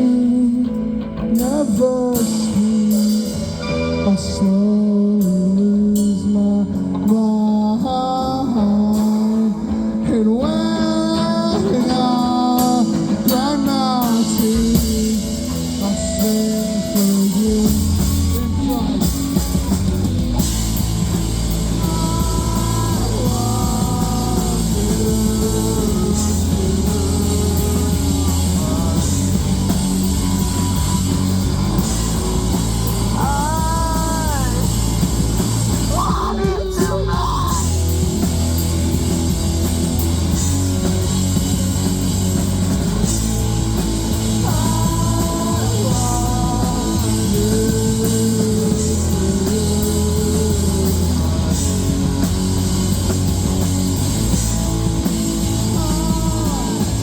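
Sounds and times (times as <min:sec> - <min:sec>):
bass and drums: 0:00.0 - 0:57.0
electric guitar: 0:00.0 - 0:57.0
person singing lead vocal: 0:00.0 - 0:57.0.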